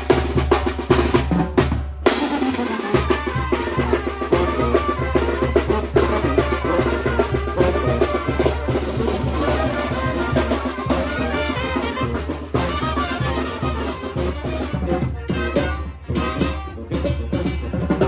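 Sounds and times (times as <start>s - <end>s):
steady drum beat: 0.0s - 18.0s
brass playing a tune: 2.0s - 17.6s.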